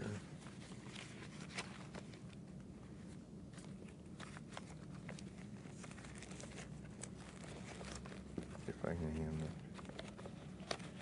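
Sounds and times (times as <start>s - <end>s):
low room hum: 0.0s - 11.0s
papers rustling: 0.0s - 11.0s.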